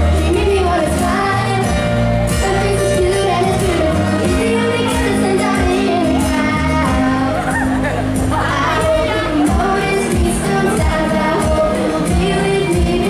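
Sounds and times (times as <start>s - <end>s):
loud backing music: 0.0s - 13.0s
man singing pop song live: 2.4s - 13.0s.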